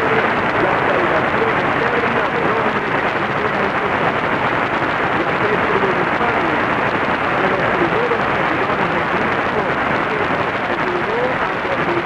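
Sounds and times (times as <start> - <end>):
faint voice on radio: 0.0 - 4.2, 5.2 - 6.7, 7.4 - 12.0
radio static hiss: 0.0 - 12.0.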